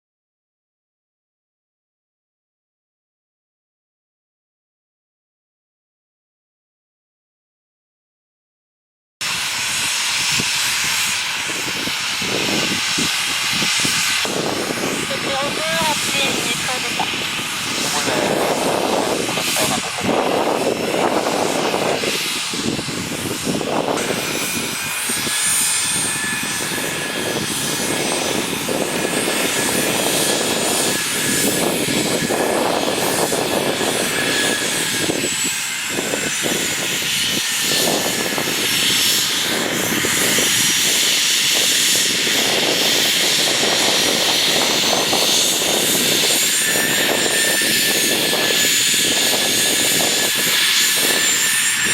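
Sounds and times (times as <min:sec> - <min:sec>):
jet engine rushing noise: 0:09.2 - 0:51.9
jet engines whining: 0:09.2 - 0:51.9.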